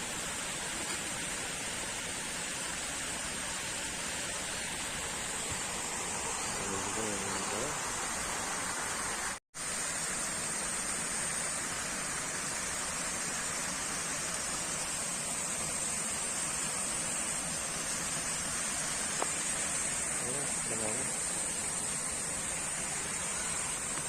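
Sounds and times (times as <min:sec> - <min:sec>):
steady rushing noise with hiss: 0:00.0 - 0:24.0.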